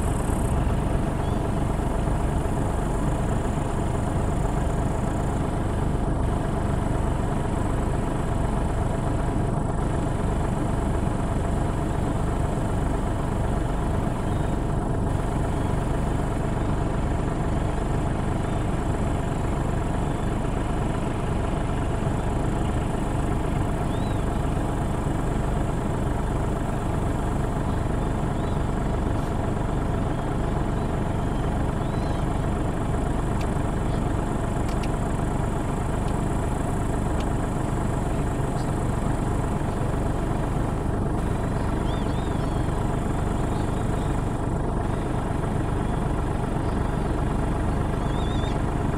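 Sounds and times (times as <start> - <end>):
round baler working: 0.0 - 48.9
tractor diesel engine under load: 0.0 - 48.9.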